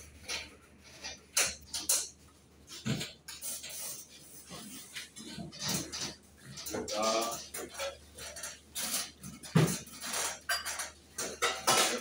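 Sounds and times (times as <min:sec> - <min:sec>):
metal dishes clinking: 0:00.2 - 0:12.0.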